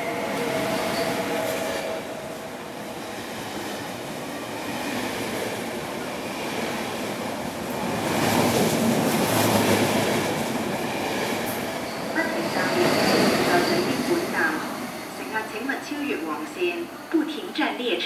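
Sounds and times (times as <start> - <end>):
train rushing past: 0.0 - 18.0.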